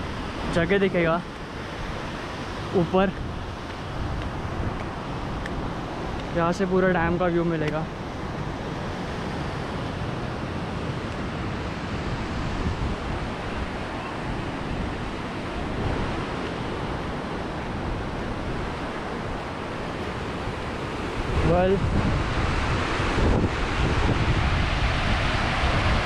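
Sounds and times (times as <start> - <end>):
water rushing through a dam: 0.0 - 26.0
wind buffeting the microphone: 0.0 - 26.0.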